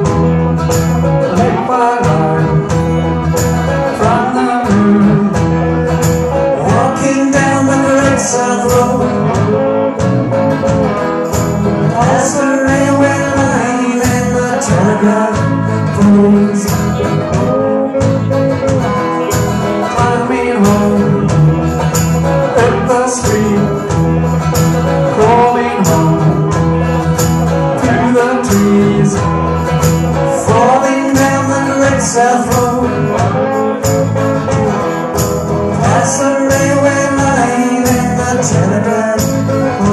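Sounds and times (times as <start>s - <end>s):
live rock band playing: 0.0s - 39.9s
person singing lead vocals: 0.0s - 39.9s.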